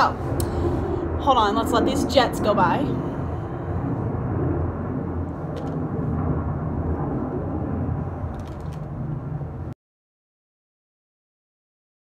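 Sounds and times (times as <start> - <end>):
jet aircraft flying over: 0.0 - 9.8.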